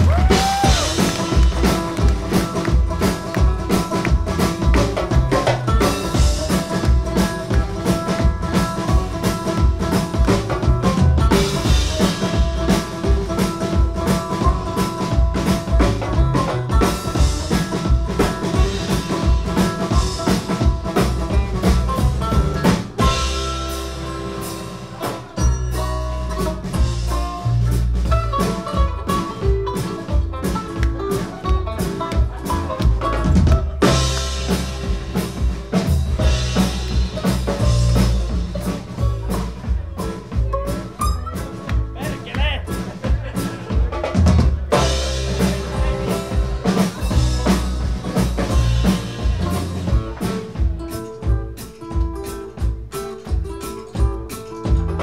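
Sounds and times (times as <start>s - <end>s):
bluegrass band playing: 0.0s - 55.0s
driving drum beat: 0.0s - 55.0s.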